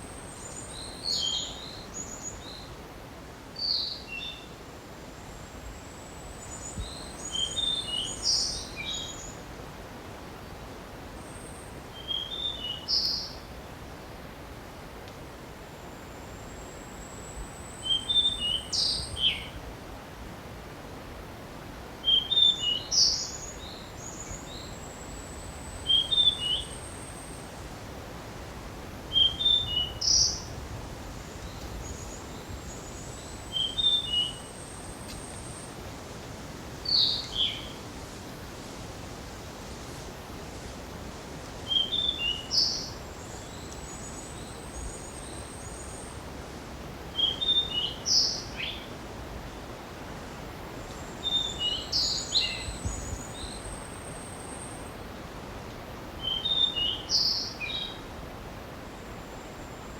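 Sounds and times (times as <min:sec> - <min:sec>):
steady soft hiss: 0:00.0 - 0:59.9.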